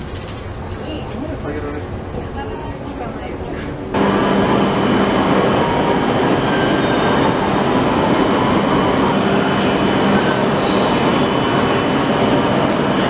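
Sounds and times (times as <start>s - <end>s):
electric train running hum: 0.0s - 13.0s.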